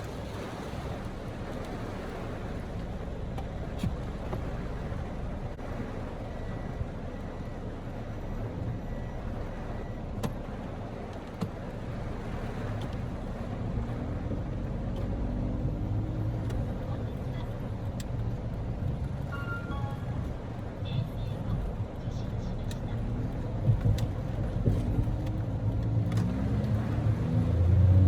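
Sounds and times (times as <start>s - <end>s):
low engine and tyre rumble: 0.0s - 28.0s
road noise: 0.0s - 28.0s.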